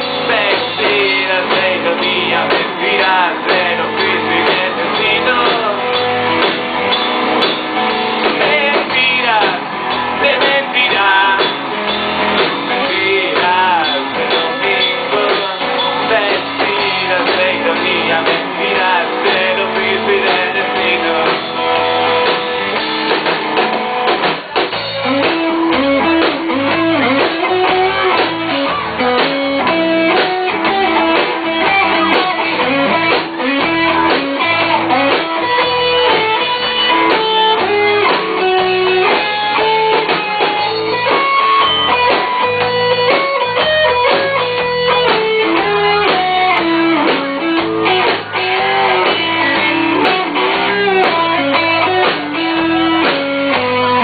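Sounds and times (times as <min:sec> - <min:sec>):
electric guitar lead melody: 0:00.0 - 0:54.0
rock band playing: 0:00.0 - 0:54.0.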